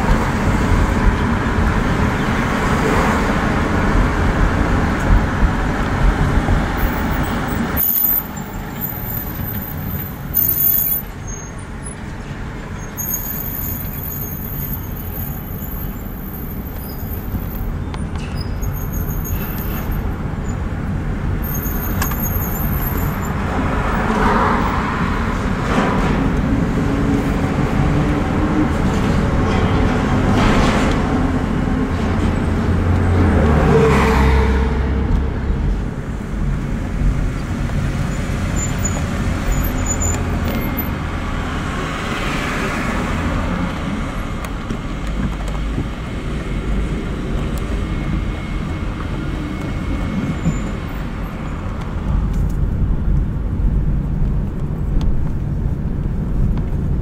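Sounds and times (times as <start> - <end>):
road traffic rumble: 0.0 - 57.0
vehicles passing: 0.0 - 57.0.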